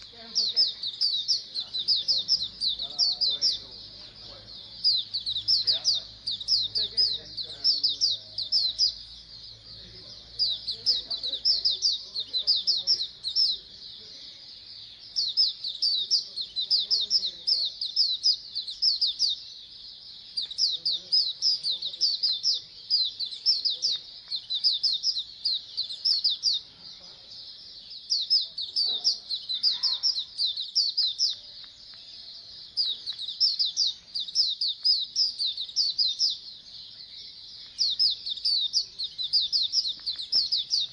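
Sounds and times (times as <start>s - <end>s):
birds singing rapid high chirps: 0.0s - 40.9s.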